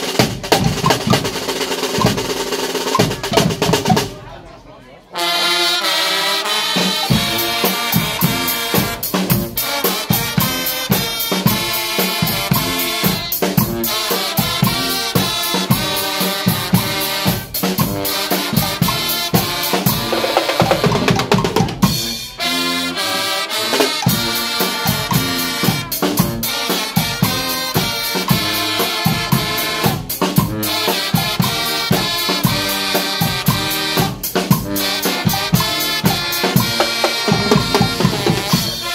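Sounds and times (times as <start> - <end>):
bass drum beat: 0.0 - 4.2, 7.1 - 22.1, 24.1 - 38.9
cymbals: 0.0 - 4.2, 5.2 - 38.9
brass band playing loudly: 0.0 - 4.3, 5.0 - 38.9.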